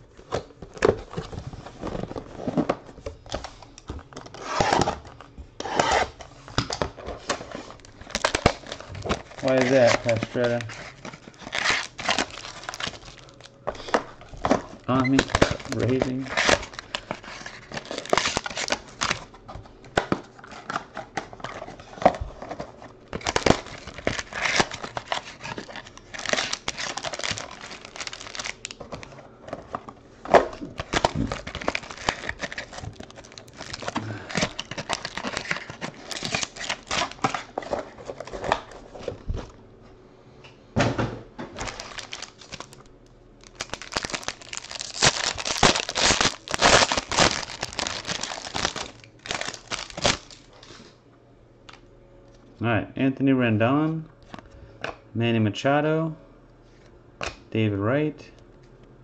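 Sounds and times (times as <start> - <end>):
foil pack crinkling: 0.0 - 39.2, 41.6 - 50.8
cellophane crinkling: 0.0 - 39.6, 41.6 - 50.8.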